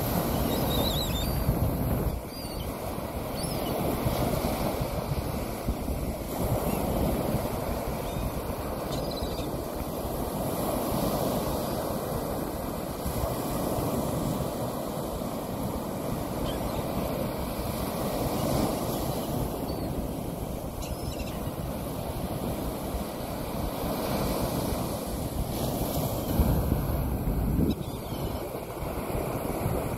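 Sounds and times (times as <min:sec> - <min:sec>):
wind rumbling on microphone: 0:00.0 - 0:14.8, 0:15.5 - 0:29.9.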